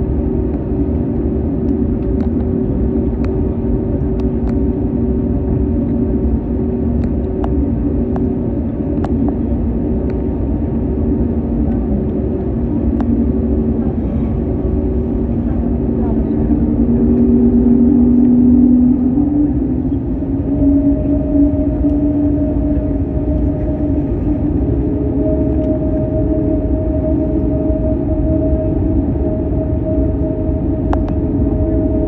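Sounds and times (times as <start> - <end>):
aircraft cabin engine rumble: 0.0 - 32.0.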